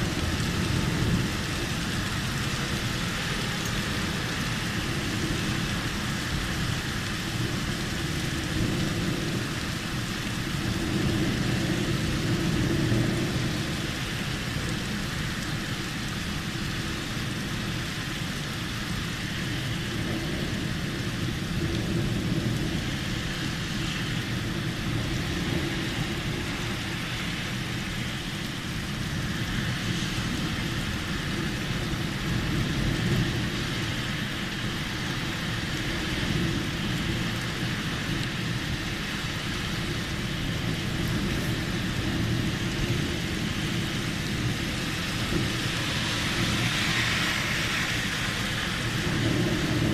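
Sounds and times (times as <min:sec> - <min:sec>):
low thunder rumbling: 0:00.0 - 0:16.4, 0:19.5 - 0:49.9
steady rain: 0:00.0 - 0:49.9.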